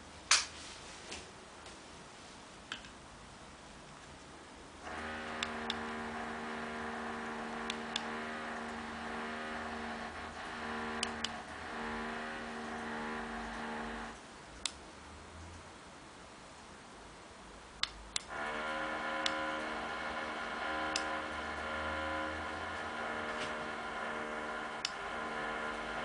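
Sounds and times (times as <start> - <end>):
steady multi-pitch hum: 1.4 - 26.0.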